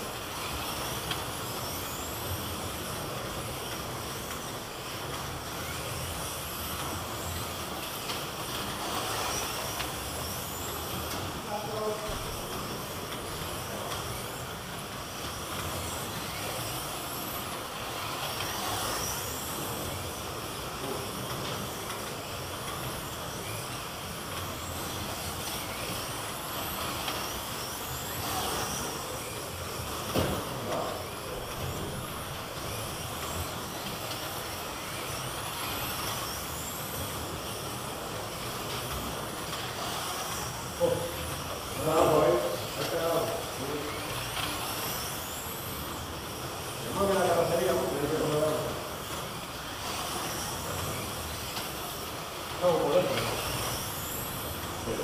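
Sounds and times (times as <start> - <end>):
slot car motors whining: 0.0 - 55.0.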